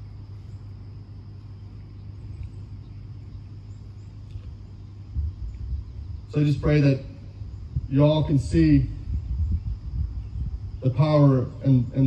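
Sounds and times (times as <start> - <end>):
faint background hiss: 0.0 - 12.0
steady low hum: 0.0 - 12.0.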